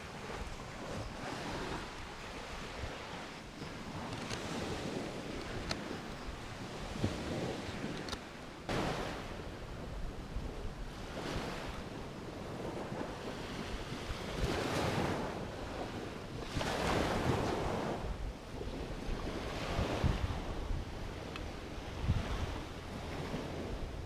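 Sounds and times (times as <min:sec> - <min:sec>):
waves washing onto shore: 0:00.0 - 0:24.0
wind buffeting microphone: 0:00.0 - 0:24.0.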